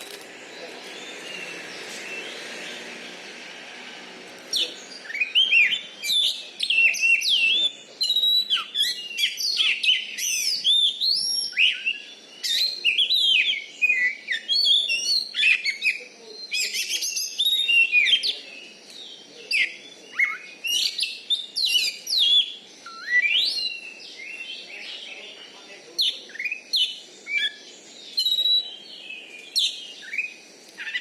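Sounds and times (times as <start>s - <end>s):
bird singing whistled song: 4.5s - 25.4s, 26.0s - 31.0s.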